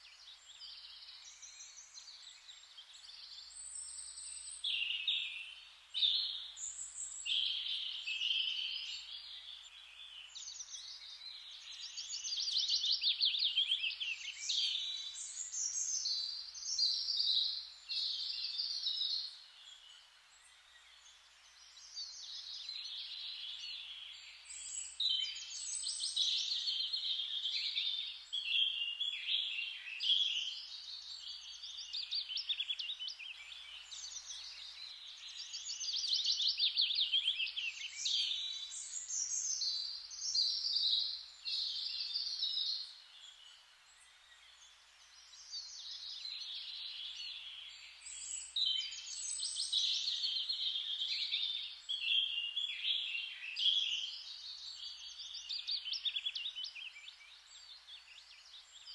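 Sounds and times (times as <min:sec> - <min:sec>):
songbirds trilling and chirping: 0:00.0 - 0:58.9.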